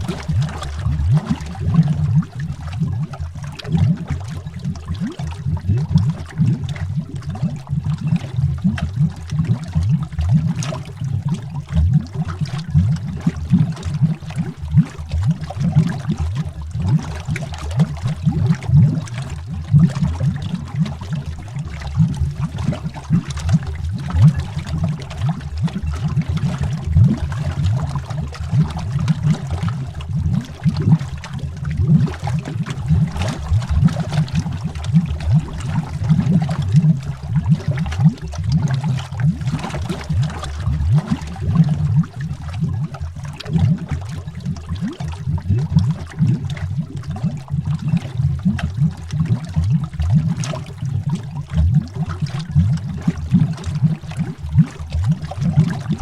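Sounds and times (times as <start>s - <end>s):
underwater bubbling: 0.0s - 56.0s.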